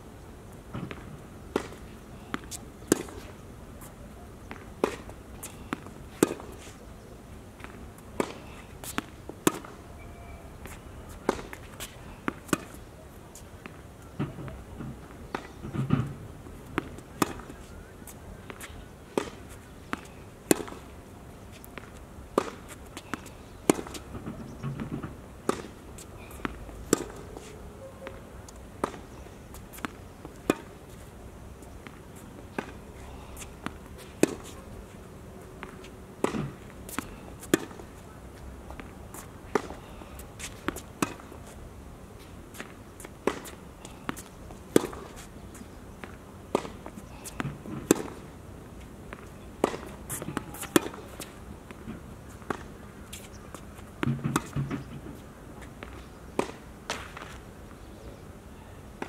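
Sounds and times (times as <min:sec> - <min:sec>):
rackets hitting tennis ball: 0:00.8 - 0:03.4, 0:04.4 - 0:06.7, 0:07.6 - 0:09.8, 0:10.6 - 0:12.8, 0:13.4 - 0:27.5, 0:28.1 - 0:31.0, 0:31.7 - 0:34.8, 0:35.6 - 0:41.6, 0:42.2 - 0:48.3, 0:49.1 - 0:57.5.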